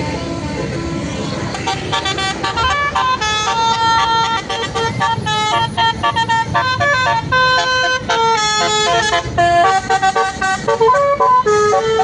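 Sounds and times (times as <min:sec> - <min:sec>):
musical horn playing melody: 0:00.2 - 0:12.0.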